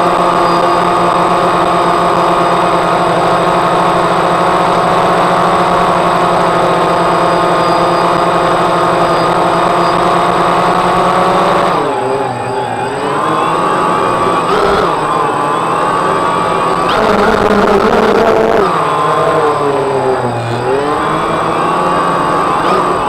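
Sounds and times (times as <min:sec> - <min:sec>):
drone motors humming: 0:00.0 - 0:23.0.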